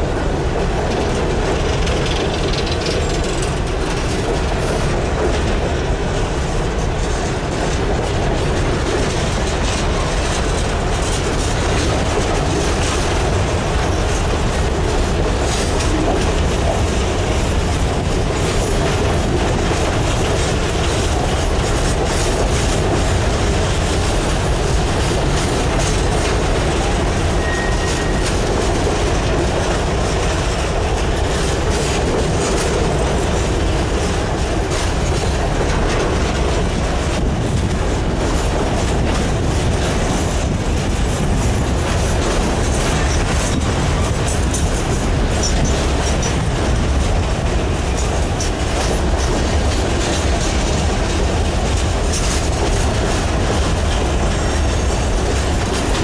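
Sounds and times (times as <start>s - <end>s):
freight cars rumbling on rails: 0.0s - 56.0s
wheels clicking over rail joints: 0.0s - 56.0s.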